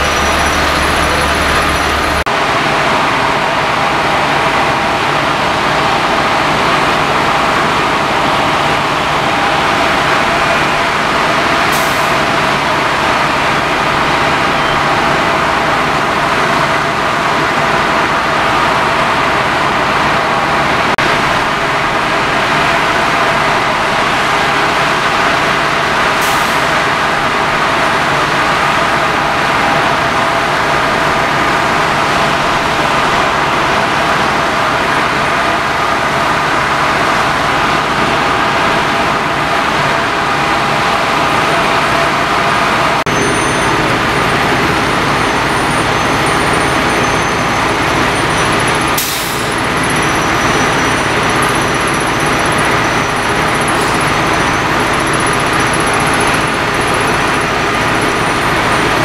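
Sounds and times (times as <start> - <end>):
fire truck engine droning: 0.0 - 59.0.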